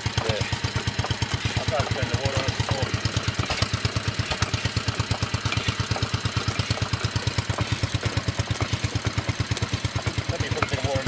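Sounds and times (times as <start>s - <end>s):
petrol engine chugging: 0.0s - 11.0s.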